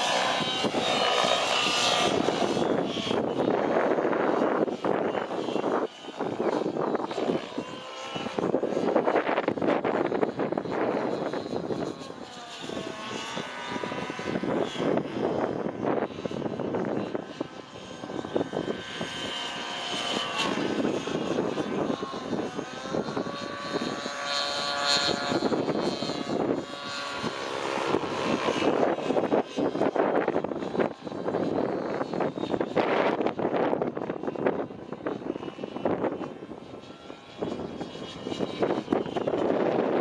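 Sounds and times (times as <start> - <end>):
model helicopter engine: 0.0 - 40.0
rotor blades whooshing: 0.0 - 40.0.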